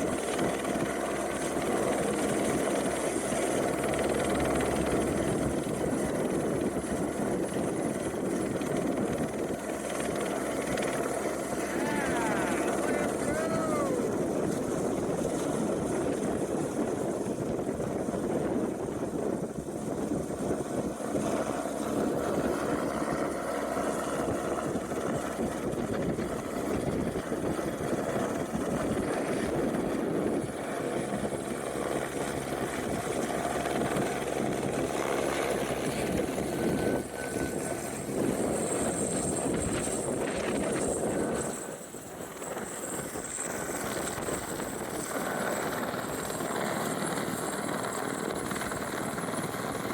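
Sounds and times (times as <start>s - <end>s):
helicopter rotor and engine: 0.0s - 49.9s
wind rushing over microphone: 1.5s - 49.9s.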